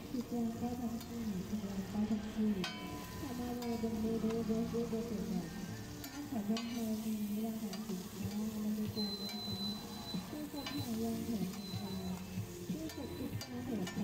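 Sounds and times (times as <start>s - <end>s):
bread sizzling in oil: 0.0s - 14.0s.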